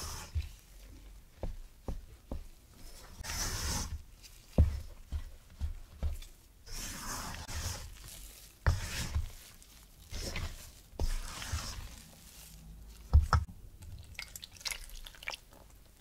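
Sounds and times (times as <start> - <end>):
spatula scraping batter in bowl: 0.0 - 13.5.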